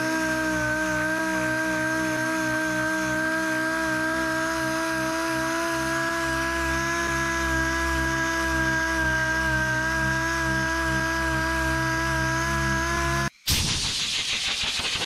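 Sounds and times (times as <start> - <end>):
sander whining: 0.0 - 13.4.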